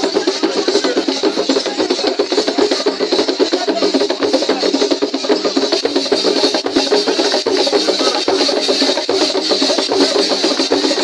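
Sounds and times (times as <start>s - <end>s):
drum ensemble playing fast rhythm: 0.0s - 11.0s.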